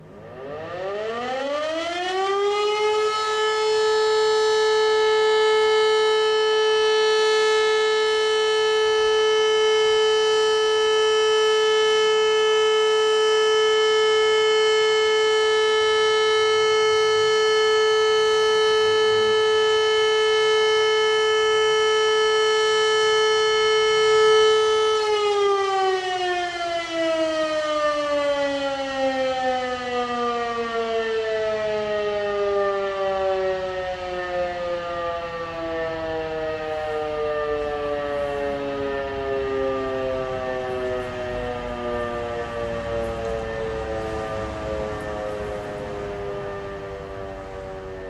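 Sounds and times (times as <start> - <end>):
civil defense siren: 0.0 - 48.0.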